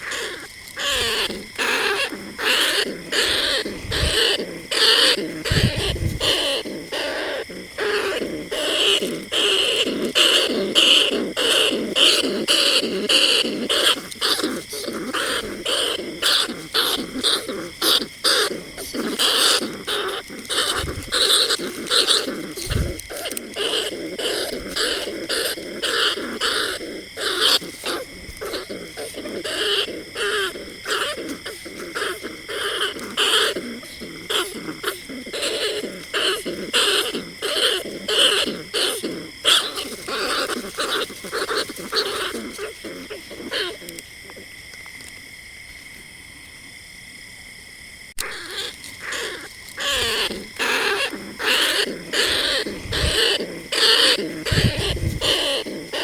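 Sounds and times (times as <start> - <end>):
rat squeaking chirps: 0.0 - 44.0, 48.2 - 56.0.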